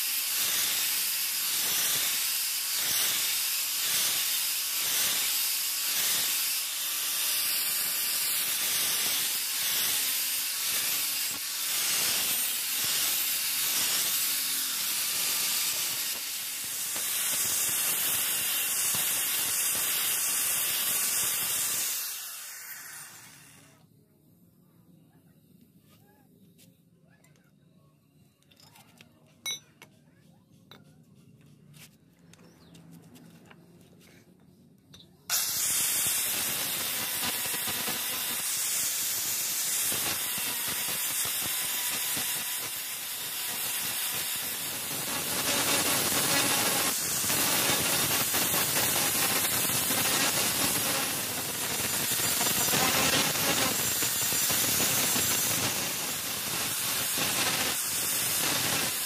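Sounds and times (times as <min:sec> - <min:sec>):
angle grinder grinding steel: 0:00.0 - 0:23.8, 0:35.3 - 0:59.0.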